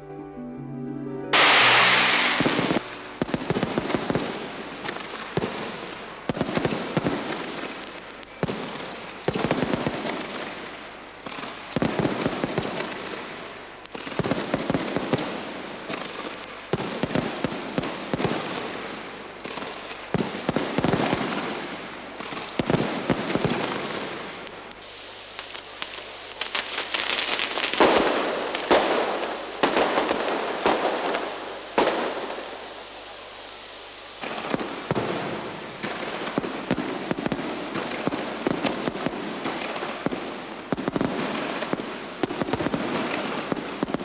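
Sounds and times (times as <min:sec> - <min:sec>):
fireworks bangs: 0:01.3 - 0:44.0
fireworks crackle: 0:01.3 - 0:44.0.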